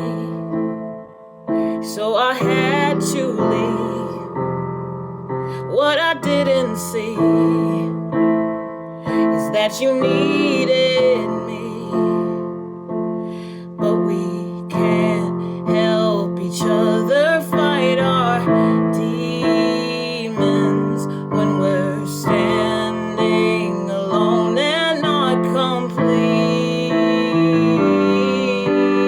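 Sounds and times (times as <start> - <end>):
woman singing: 0.0 - 1.0, 1.6 - 4.6, 5.6 - 8.3, 9.1 - 12.7, 13.6 - 29.0
piano chords: 0.0 - 29.0.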